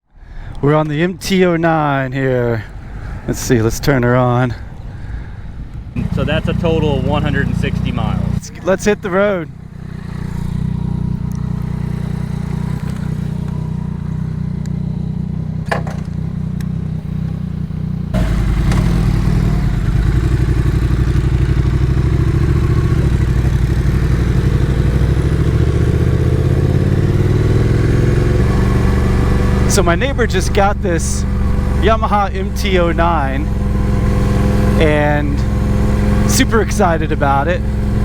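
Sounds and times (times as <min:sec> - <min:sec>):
motorcycle engine idling and accelerating: 0:02.6 - 0:38.0.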